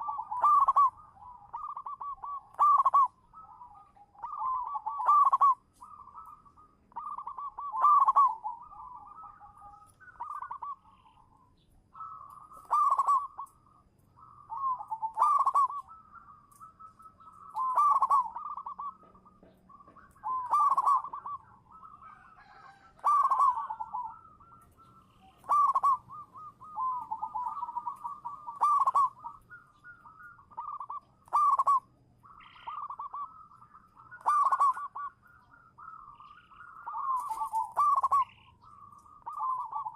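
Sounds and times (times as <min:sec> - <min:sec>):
dove cooing: 0:00.0 - 0:39.9
soft trilled bird notes: 0:00.0 - 0:39.9.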